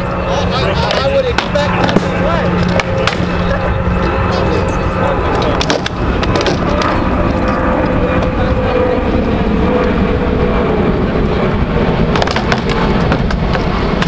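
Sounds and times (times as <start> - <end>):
loud steady rumbling: 0.0 - 14.0.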